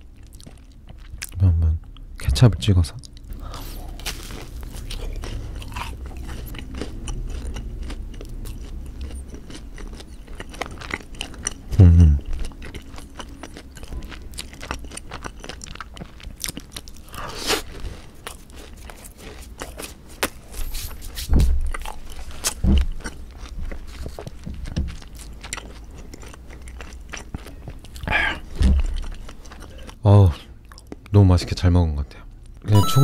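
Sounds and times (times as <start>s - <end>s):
chewing with soft crunches: 0.0s - 2.1s, 3.0s - 31.2s.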